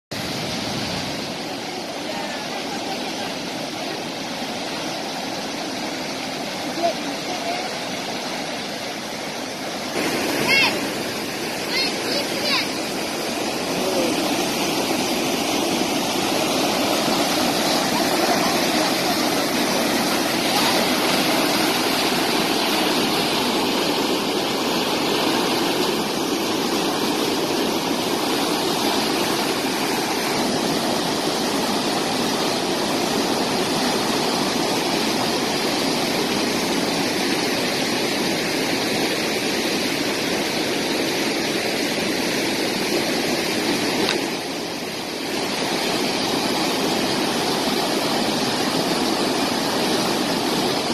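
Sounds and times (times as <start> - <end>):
floodwater rushing: 0.1 - 50.9.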